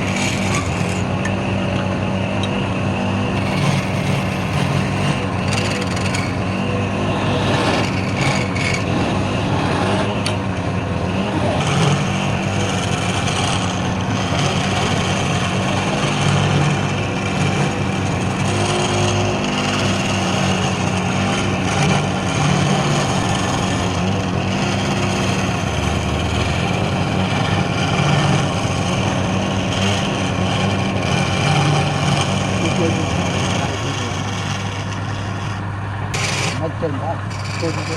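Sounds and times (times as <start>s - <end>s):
turning tool cutting wood: 0.0s - 37.9s
wood lathe running: 0.0s - 37.9s.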